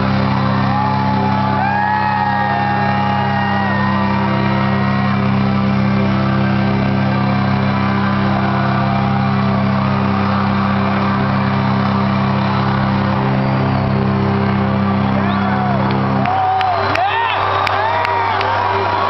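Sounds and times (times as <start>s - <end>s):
crowd cheering and shouting: 0.0s - 19.0s
rock band holding low chord: 0.0s - 19.0s.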